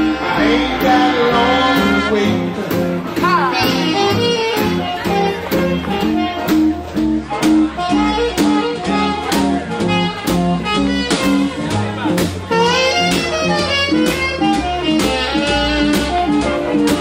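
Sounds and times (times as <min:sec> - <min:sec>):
swing band playing: 0:00.0 - 0:17.0.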